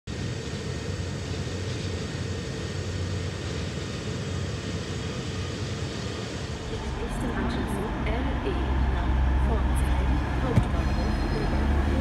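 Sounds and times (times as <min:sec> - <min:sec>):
constant hum: 0:00.1 - 0:12.0
train engine drone: 0:00.1 - 0:12.0.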